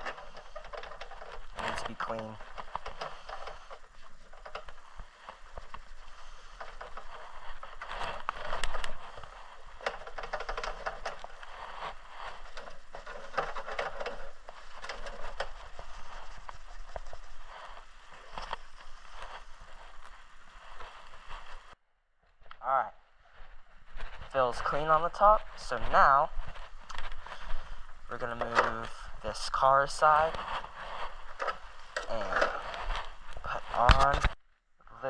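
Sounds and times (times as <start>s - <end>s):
paper towel rubbing on plastic: 0.0s - 21.8s, 23.9s - 34.1s.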